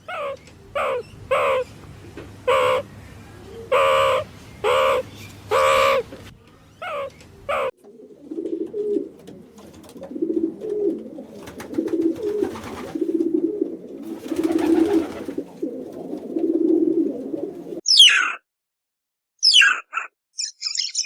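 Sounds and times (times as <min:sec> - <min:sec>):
pigeons cooing: 0:00.0 - 0:06.2, 0:06.8 - 0:17.8.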